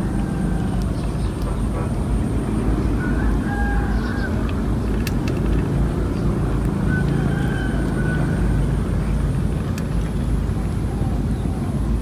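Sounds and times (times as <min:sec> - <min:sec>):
low rumbling outdoor background: 0:00.0 - 0:12.0.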